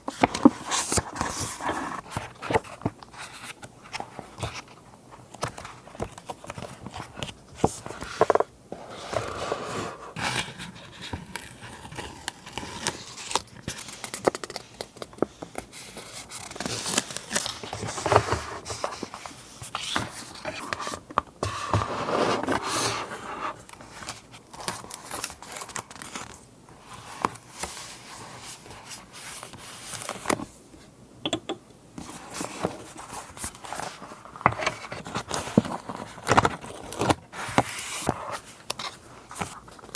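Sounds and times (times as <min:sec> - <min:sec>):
paper rustling and crinkling: 0:00.0 - 0:30.5, 0:32.0 - 0:39.9.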